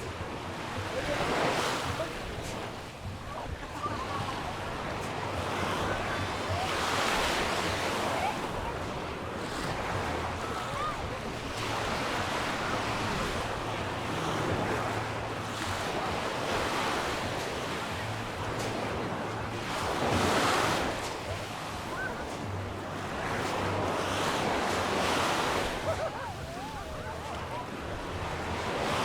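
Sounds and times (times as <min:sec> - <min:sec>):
surf washing onto beach: 0:00.0 - 0:29.0.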